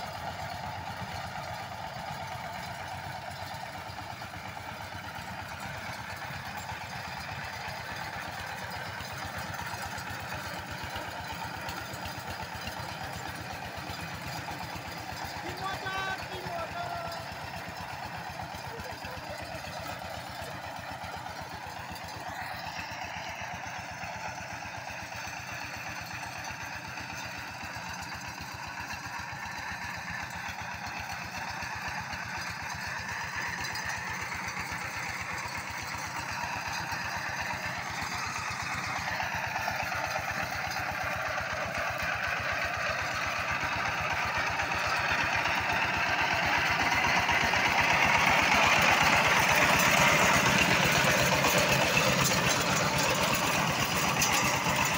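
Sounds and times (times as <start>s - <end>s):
power tiller diesel engine running: 0.0s - 54.9s.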